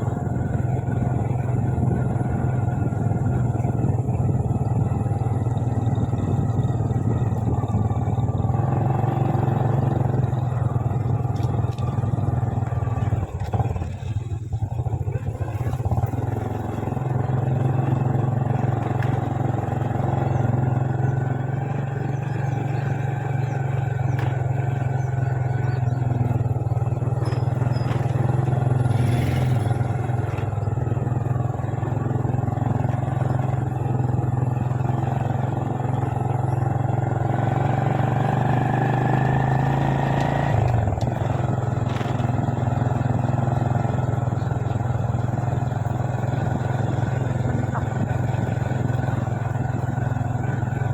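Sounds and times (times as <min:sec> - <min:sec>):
motorbike engine running: 0:00.0 - 0:50.9.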